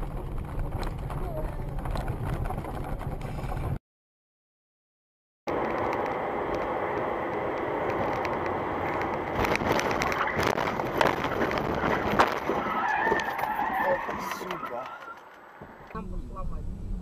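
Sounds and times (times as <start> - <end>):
road and engine noise inside car: 0.0 - 3.8, 5.5 - 17.0.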